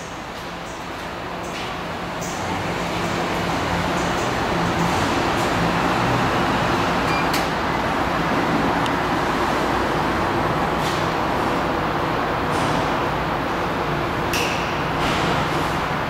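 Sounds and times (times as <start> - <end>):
elevator rumbling hum: 0.0 - 16.0
low machinery drone: 0.0 - 16.0.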